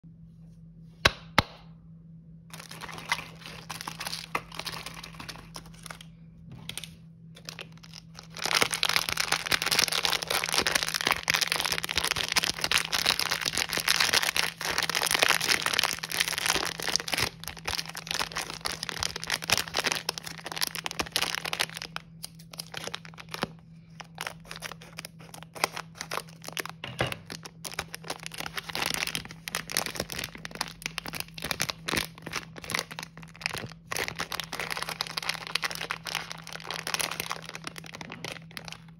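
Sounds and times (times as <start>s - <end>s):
plastic packaging crinkling: 2.5s - 38.9s.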